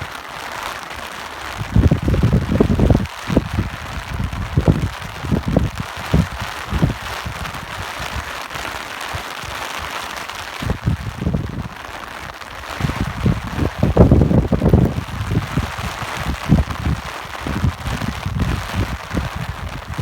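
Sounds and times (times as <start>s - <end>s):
steady rain hiss: 0.0s - 20.0s
wind buffeting microphone: 1.5s - 8.4s, 10.6s - 20.0s.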